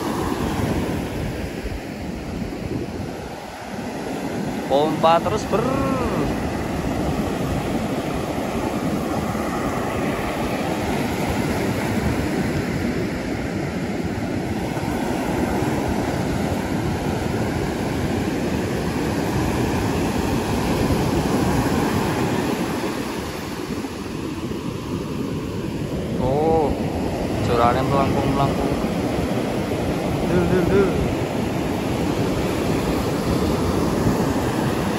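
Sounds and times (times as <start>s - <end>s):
ocean surf breaking: 0.0s - 34.9s
wind buffeting microphone: 0.0s - 34.9s.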